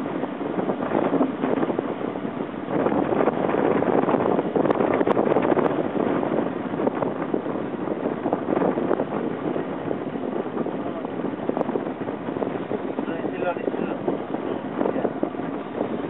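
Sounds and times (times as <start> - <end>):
boat engine and water rushing: 0.0 - 16.0
wind buffeting microphone: 0.0 - 16.0.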